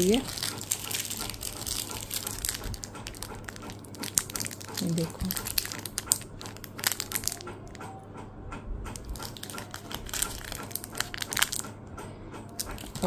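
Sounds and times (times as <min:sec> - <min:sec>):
plastic wrapping crinkling: 0:00.0 - 0:07.8, 0:08.9 - 0:11.7, 0:12.6 - 0:13.0.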